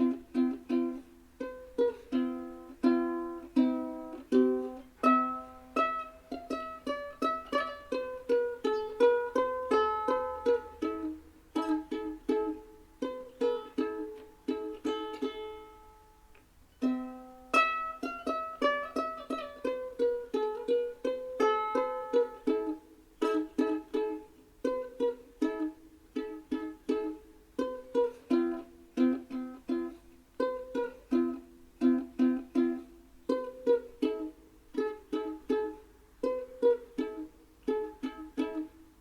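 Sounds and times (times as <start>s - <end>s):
plucked ukulele tune: 0.0s - 39.0s.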